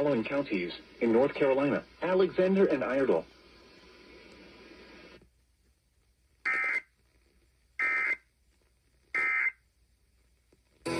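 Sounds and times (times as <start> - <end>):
faint broadcast hiss: 0.0 - 10.9.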